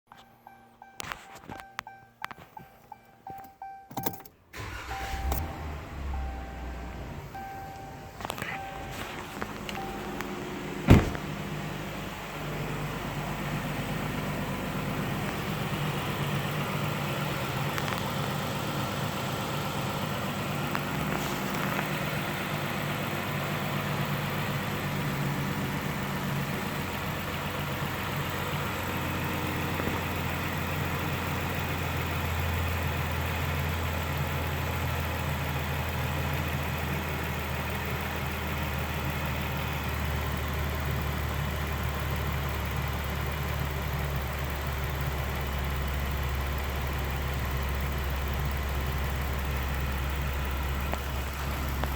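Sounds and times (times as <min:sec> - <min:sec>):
pickup engine idling: 0:04.5 - 0:51.9.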